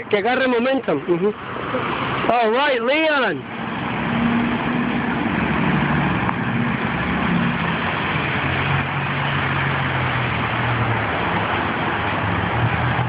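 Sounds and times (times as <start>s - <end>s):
engine running: 0.9s - 13.0s.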